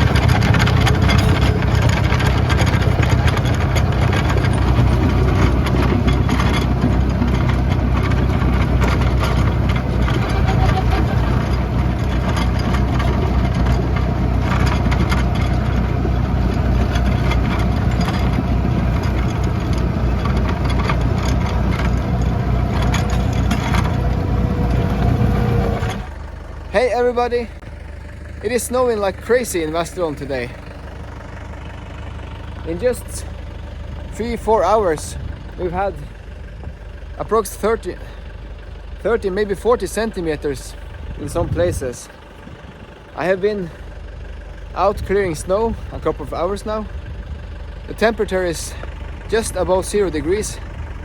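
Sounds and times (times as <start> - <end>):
snowblower clearing snow: 0.0 - 51.0
tractor diesel engine running: 0.0 - 51.0.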